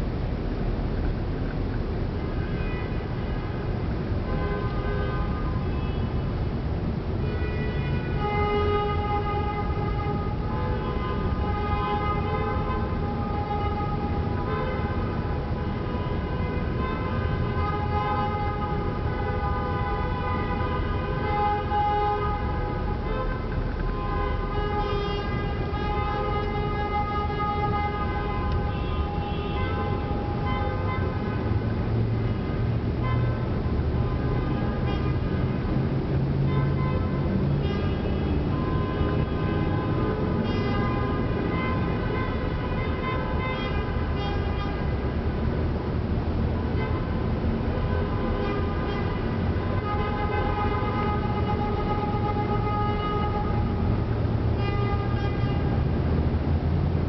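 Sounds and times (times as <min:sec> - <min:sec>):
traffic rumble in a tunnel: 0:00.0 - 0:57.0
car horns sounding: 0:07.3 - 0:45.2, 0:46.6 - 0:55.9.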